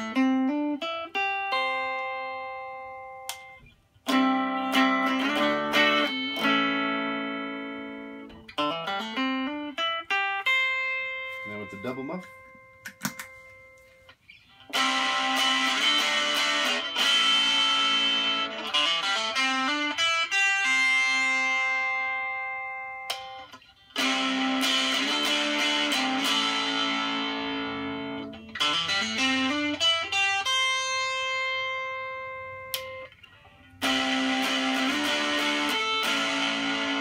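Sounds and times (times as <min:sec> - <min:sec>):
fuzz electric guitar chords: 0:00.0 - 0:13.9, 0:14.5 - 0:37.0.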